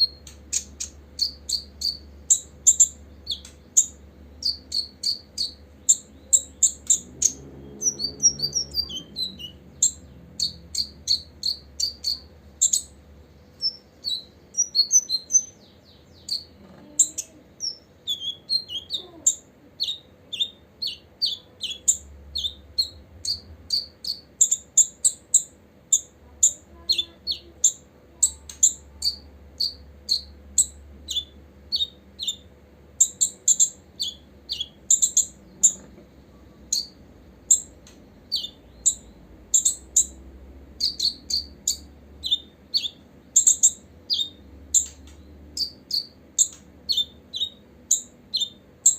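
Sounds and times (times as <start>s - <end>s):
sunbird chirping: 0.0s - 48.9s.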